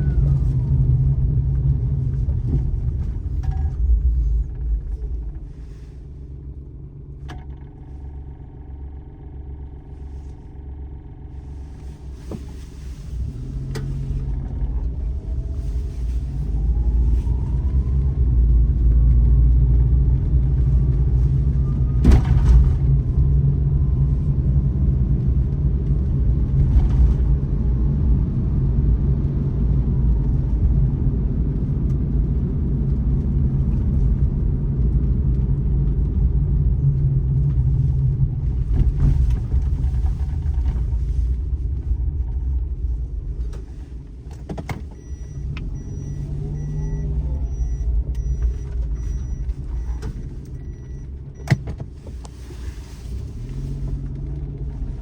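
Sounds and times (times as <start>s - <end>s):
car engine rumble: 0.0s - 55.0s
road noise: 0.0s - 55.0s.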